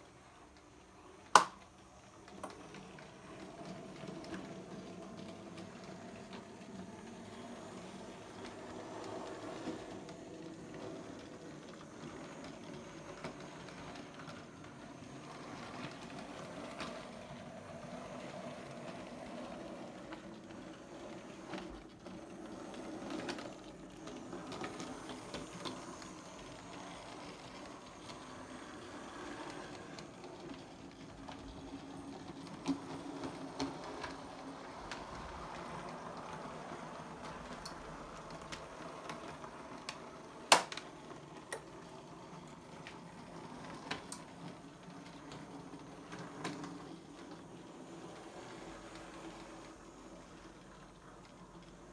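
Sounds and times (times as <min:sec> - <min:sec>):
model locomotive running on track: 0:00.0 - 0:51.9.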